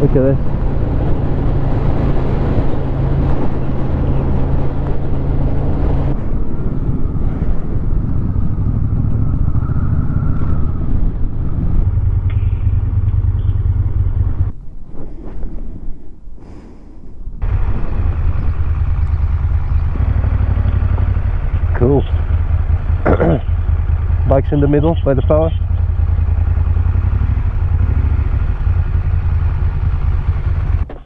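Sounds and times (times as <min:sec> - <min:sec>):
motorcycle engine running: 0:00.0 - 0:14.5, 0:17.4 - 0:31.0.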